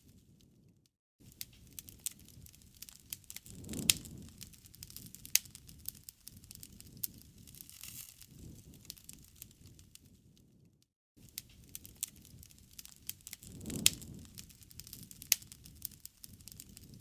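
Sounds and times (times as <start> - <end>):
low rumble of flames: 0.1 - 17.0
loud fire pops: 1.2 - 10.1, 11.2 - 17.0
campfire wood crackling: 1.2 - 10.5, 11.2 - 17.0.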